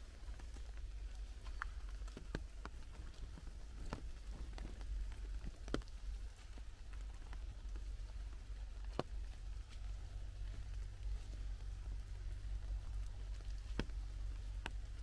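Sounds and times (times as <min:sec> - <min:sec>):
drops falling on leaves: 0:00.0 - 0:15.0
light rain patter: 0:00.0 - 0:15.0
steady low rumble: 0:00.0 - 0:15.0.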